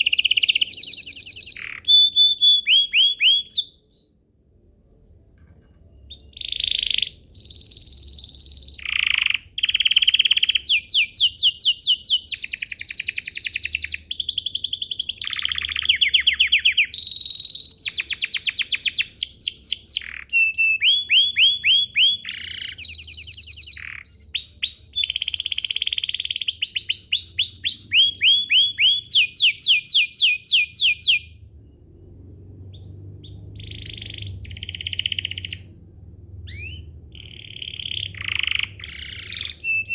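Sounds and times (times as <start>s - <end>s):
canary singing trills: 0.0s - 4.2s, 5.9s - 39.9s.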